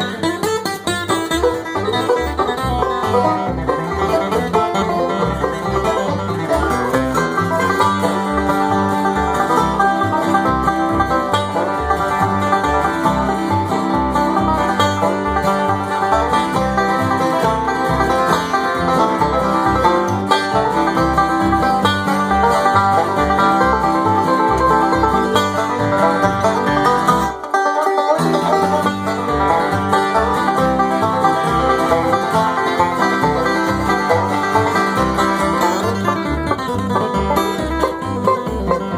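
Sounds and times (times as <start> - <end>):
bass notes pulsing: 0.0 - 27.4, 28.2 - 38.9
banjo rolls: 0.0 - 38.9
guitar: 0.0 - 38.9.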